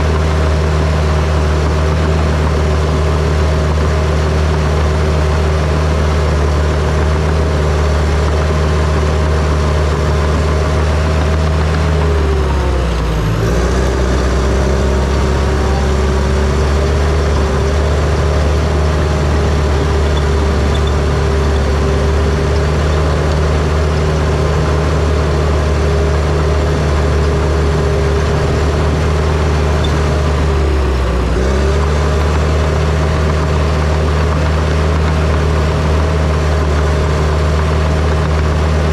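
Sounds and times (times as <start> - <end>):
dozer diesel engine running: 0.0 - 38.9.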